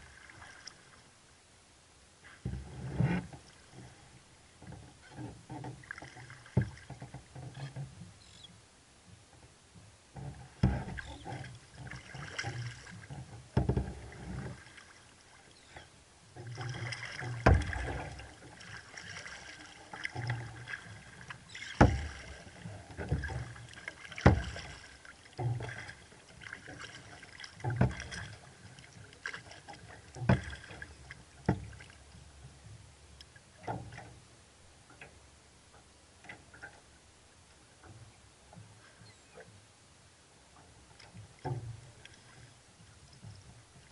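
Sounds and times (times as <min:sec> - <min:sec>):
paddle blades splashing water: 0:00.0 - 0:01.2, 0:02.2 - 0:08.5, 0:09.8 - 0:34.2, 0:40.5 - 0:43.9
water slapping and dripping on hull: 0:02.2 - 0:08.4, 0:09.1 - 0:39.6, 0:40.5 - 0:43.9.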